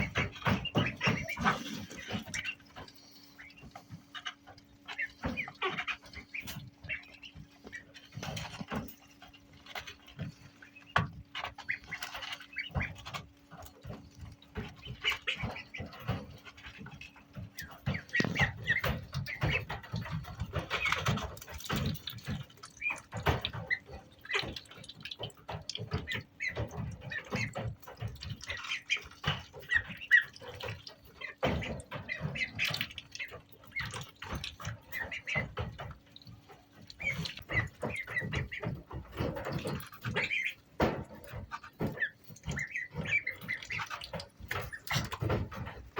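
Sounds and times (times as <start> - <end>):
ducklings peeping: 0.0 - 45.9
knocks and scuffling: 0.0 - 45.9.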